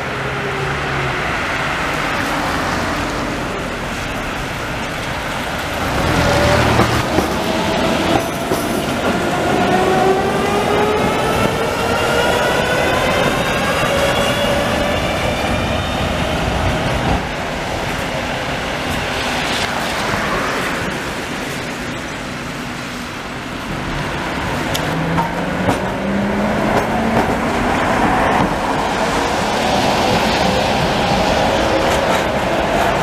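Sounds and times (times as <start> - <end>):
trams passing: 0.0 - 33.0.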